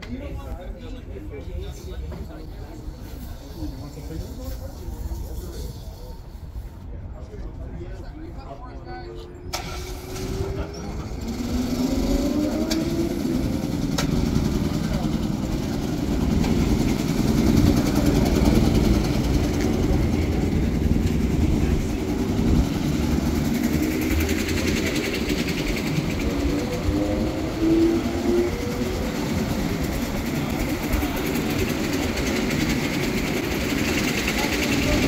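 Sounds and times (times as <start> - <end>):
go-kart engines idling: 0.0 - 6.9, 9.5 - 35.0.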